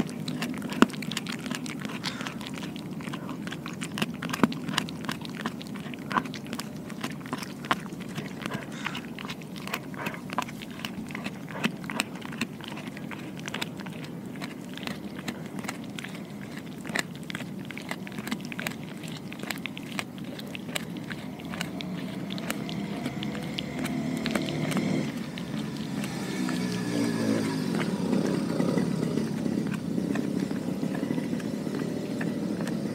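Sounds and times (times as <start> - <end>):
dog chewing raw meat: 0.0 - 32.9.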